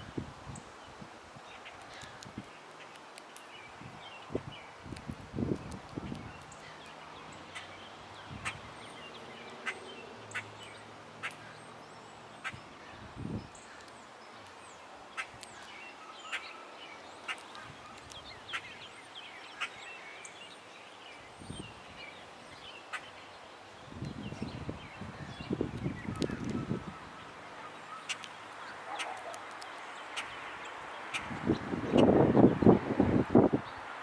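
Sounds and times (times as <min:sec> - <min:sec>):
small birds chirping: 0:00.1 - 0:34.0.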